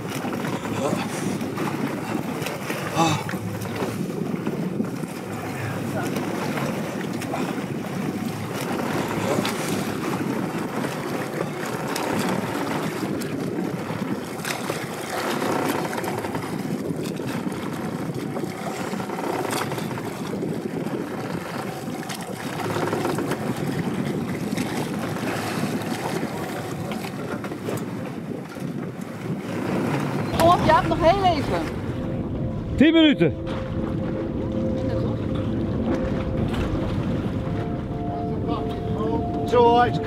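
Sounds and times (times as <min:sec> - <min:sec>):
boat rumbling under way: 0:00.0 - 0:40.0
wind on microphone: 0:00.0 - 0:40.0.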